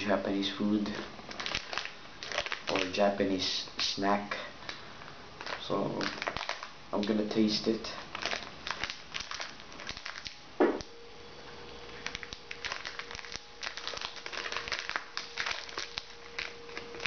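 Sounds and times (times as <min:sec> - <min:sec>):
plastic wrapper crinkling: 0:00.6 - 0:10.9, 0:11.9 - 0:17.0.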